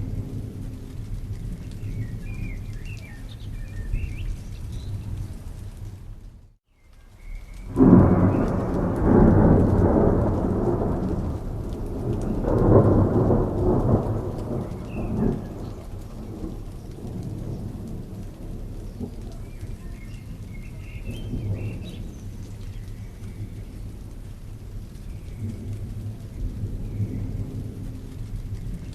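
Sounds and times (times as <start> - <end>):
rolling thunder: 0.0 - 6.5, 7.5 - 28.9
steady rainfall: 0.0 - 28.9.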